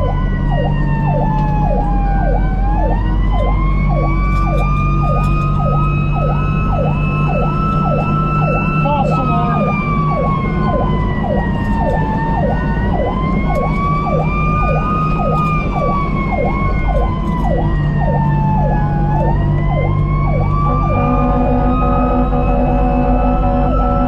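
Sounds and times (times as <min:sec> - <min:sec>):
diesel engine droning: 0:00.0 - 0:24.0
fire engine sirens wailing and yelping: 0:00.0 - 0:24.0.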